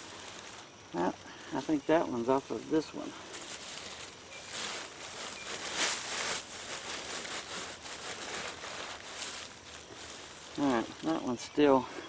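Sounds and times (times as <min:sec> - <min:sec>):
hands digging through soil: 0:00.0 - 0:11.4.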